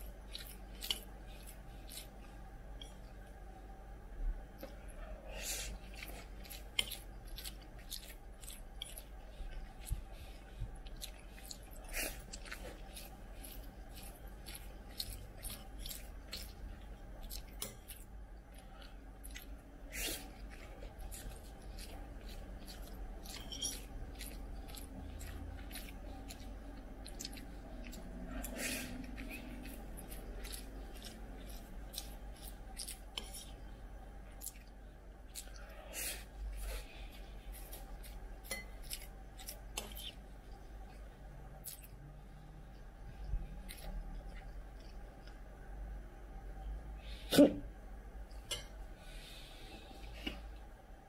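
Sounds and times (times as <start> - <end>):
chewing: 0.0 - 3.4, 4.5 - 45.6.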